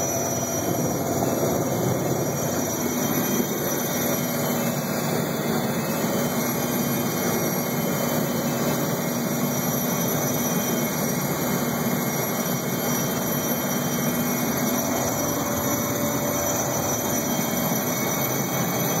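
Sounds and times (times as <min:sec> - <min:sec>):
helicopter turbines and rotor: 0:00.0 - 0:19.0.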